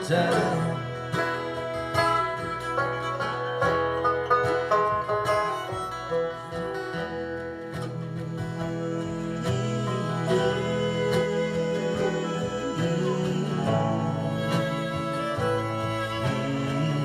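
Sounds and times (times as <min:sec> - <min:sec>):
quick plucked notes: 0:00.0 - 0:17.0
strummed acoustic guitar: 0:00.0 - 0:17.0.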